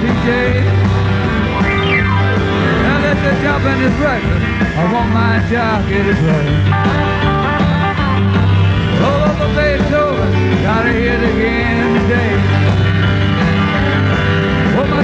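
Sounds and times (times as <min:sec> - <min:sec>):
rock and roll band music: 0:00.0 - 0:15.0.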